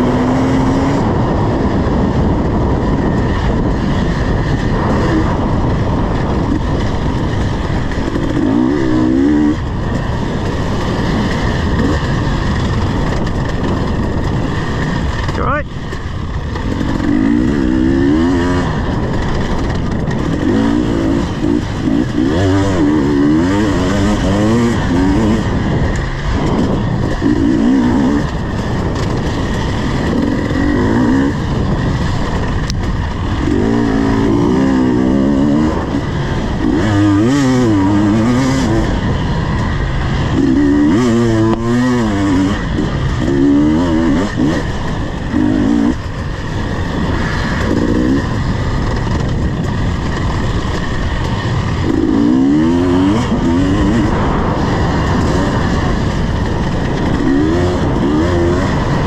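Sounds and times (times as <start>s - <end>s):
motorcycle engine revving: 0.0s - 59.0s
steady rushing noise: 0.0s - 59.0s.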